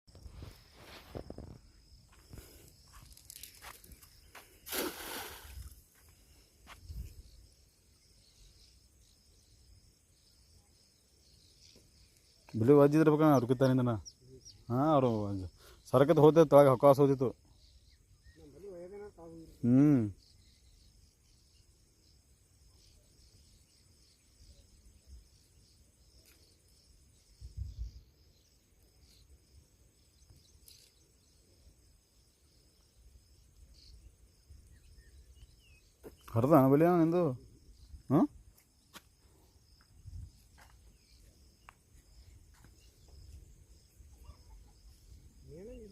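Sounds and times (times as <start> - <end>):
crickets trilling: 0.1 - 45.9.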